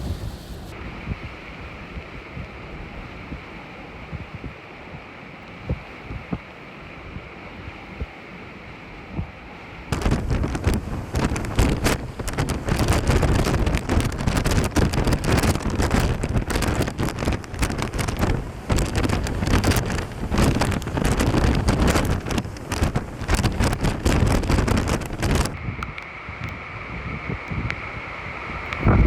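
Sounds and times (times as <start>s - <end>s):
wind gusting against microphone: 0.0s - 29.0s.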